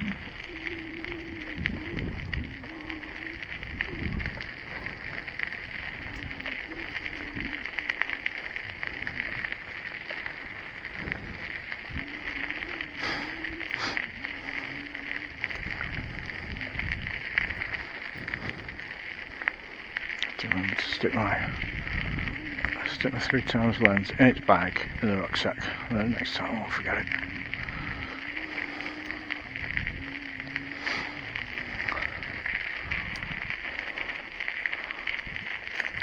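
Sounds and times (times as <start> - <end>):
bicycle rolling and drivetrain: 0.0 - 36.0.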